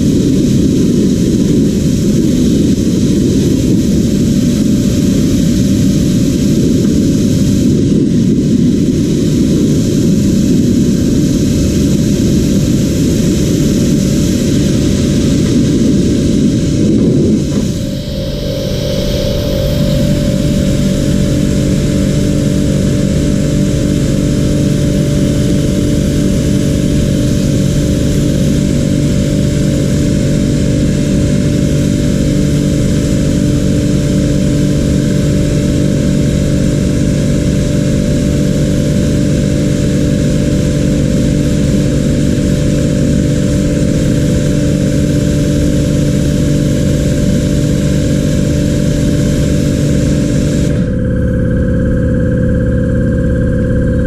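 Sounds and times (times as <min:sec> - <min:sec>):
mechanical drone: 0:00.0 - 0:54.0.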